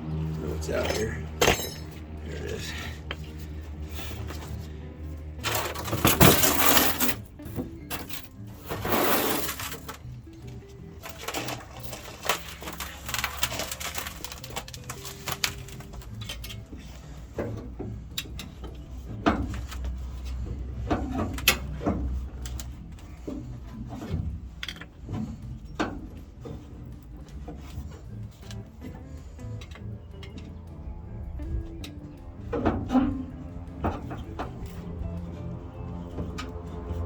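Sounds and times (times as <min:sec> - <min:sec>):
hand tools clicking and scraping: 0:00.1 - 0:37.0.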